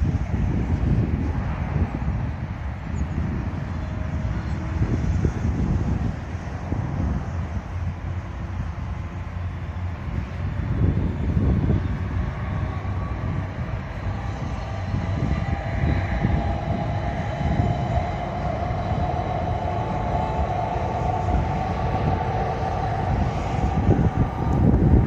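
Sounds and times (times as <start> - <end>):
steady whine: 0.0 - 25.0
trains passing on rails: 0.0 - 25.0.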